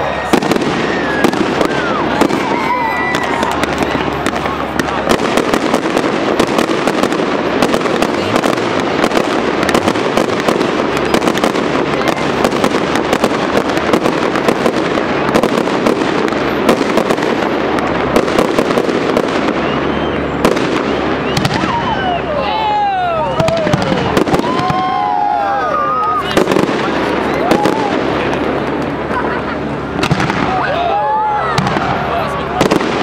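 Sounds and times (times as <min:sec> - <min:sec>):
fireworks bangs and pops: 0:00.0 - 0:33.0.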